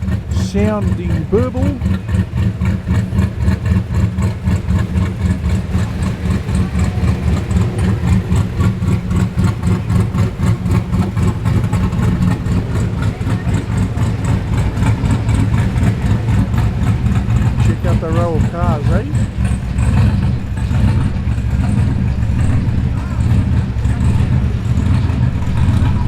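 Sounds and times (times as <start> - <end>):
v eight engine burbling: 0.0 - 26.0.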